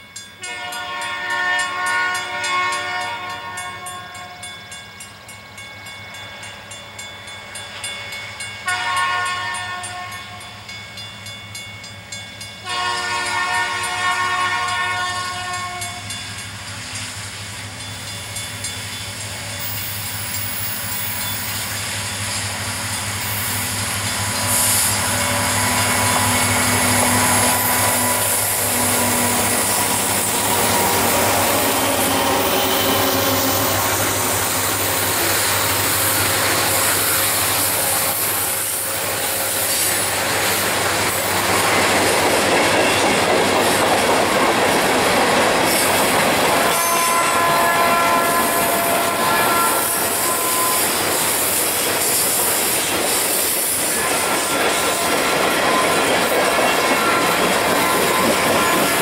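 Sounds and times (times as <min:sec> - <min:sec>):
train wheels clattering on rails: 0:07.6 - 0:59.0
diesel locomotive engines humming: 0:08.7 - 0:59.0.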